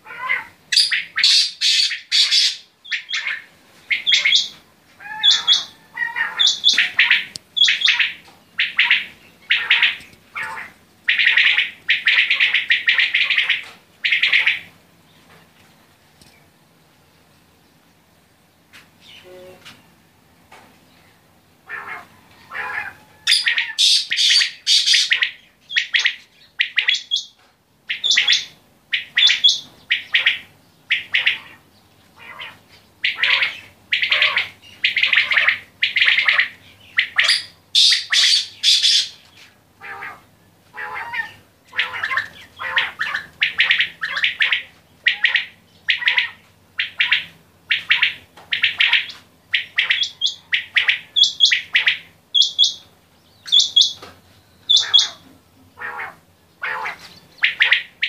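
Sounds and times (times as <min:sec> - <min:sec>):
quails calling: 0:00.0 - 0:14.8, 0:21.6 - 0:58.0.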